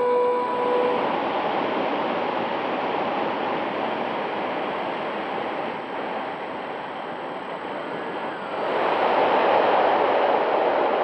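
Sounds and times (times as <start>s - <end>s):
wind rushing over microphone: 0.9s - 11.0s.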